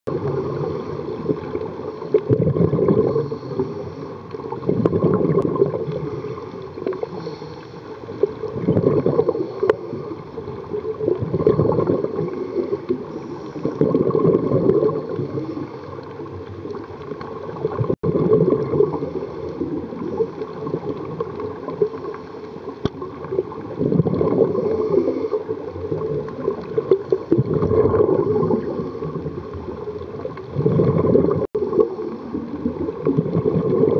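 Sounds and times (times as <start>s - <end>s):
exhaled bubbles gurgling: 0.1s - 33.9s
low water noise: 0.1s - 33.9s.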